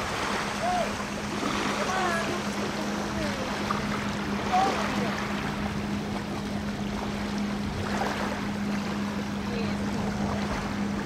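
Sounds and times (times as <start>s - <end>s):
steady low hum: 0.0s - 11.0s
water lapping: 0.0s - 11.0s.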